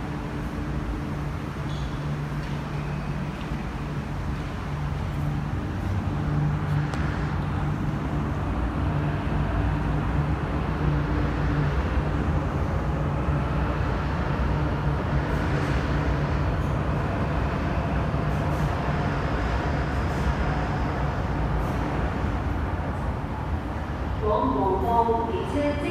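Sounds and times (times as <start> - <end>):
metro train hum and rumble: 0.0 - 25.9.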